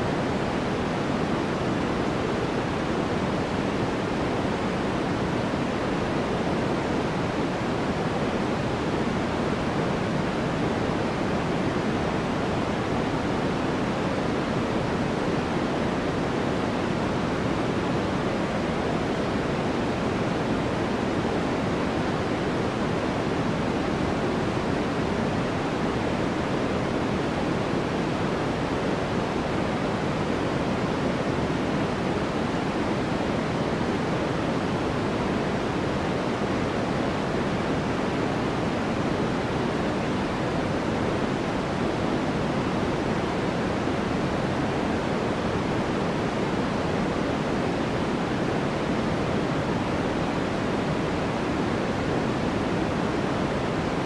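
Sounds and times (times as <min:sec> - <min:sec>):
steady pink noise: 0:00.0 - 0:54.0.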